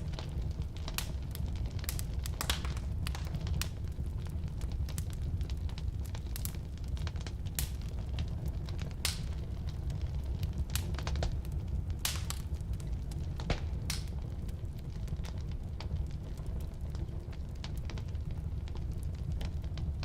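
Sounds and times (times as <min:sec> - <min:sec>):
burning wood crackling and popping: 0:00.0 - 0:20.0
low rumble of flame: 0:00.0 - 0:20.0.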